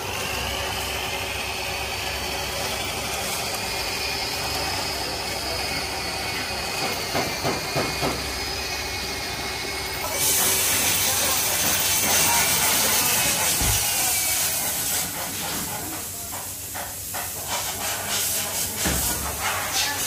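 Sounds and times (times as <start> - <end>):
compressed air hissing: 0.0 - 20.0.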